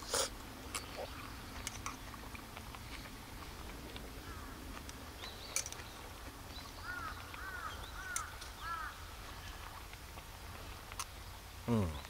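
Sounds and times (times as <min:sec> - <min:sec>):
bird calling: 0:00.0 - 0:12.0
low outdoor rumble: 0:00.0 - 0:12.0.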